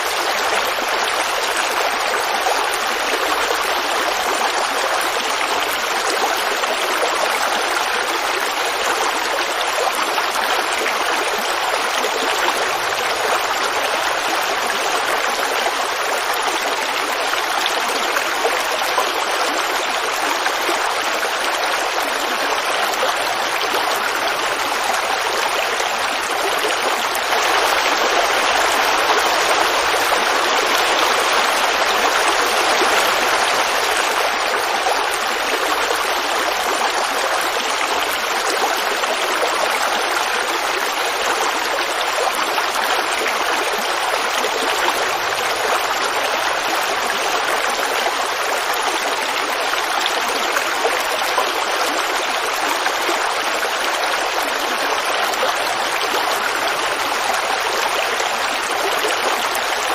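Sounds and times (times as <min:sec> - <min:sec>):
creek water babbling: 0:00.0 - 0:59.9.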